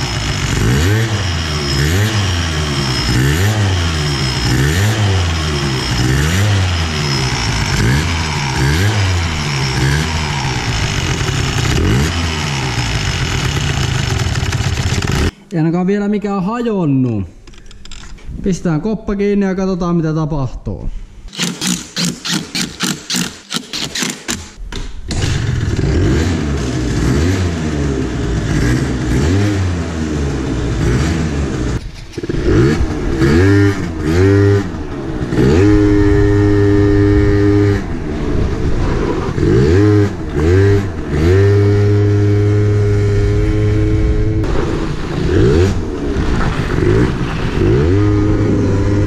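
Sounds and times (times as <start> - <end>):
moped engine revving: 0.0 - 15.4, 21.3 - 49.0.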